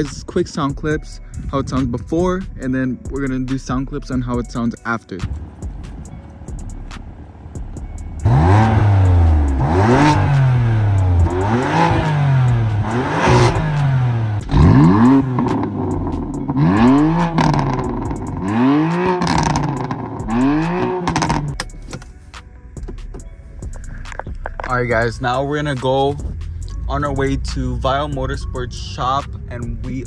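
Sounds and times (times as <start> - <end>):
car engine revving: 5.2 - 22.1, 22.8 - 30.0.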